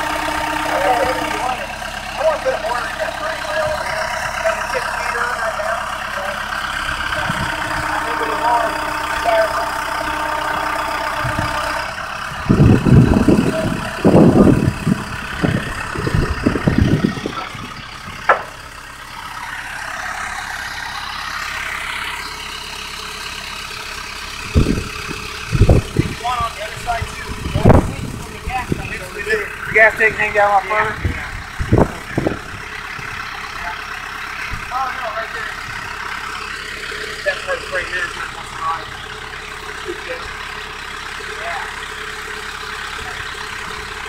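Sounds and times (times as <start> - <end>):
loud low rumbling blasts: 0.0 - 44.0
vehicle engine idling: 0.0 - 44.0.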